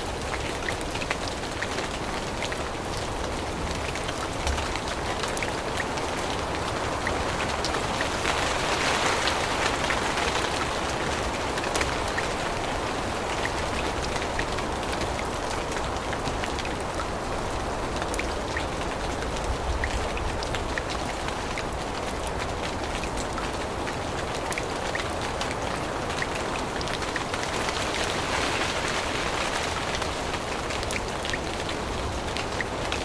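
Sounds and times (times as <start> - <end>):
rain on foliage: 0.0 - 33.0.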